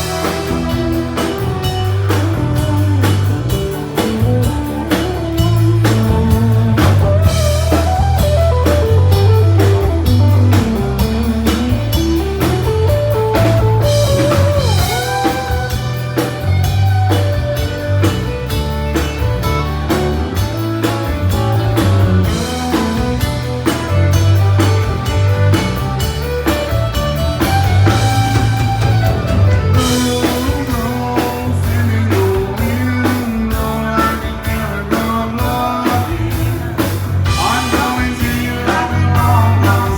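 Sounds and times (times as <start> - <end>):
country band playing: 0.0 - 39.9.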